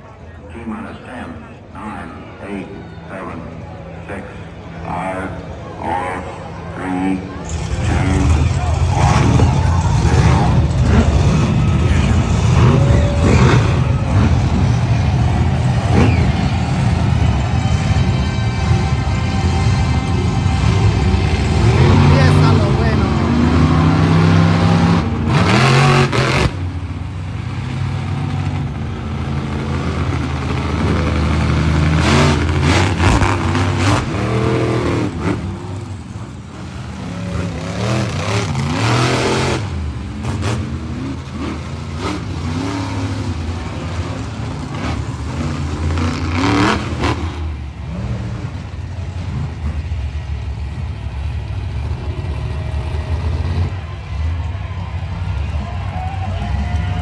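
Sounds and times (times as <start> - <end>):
vehicle engines revving: 0.0 - 57.0.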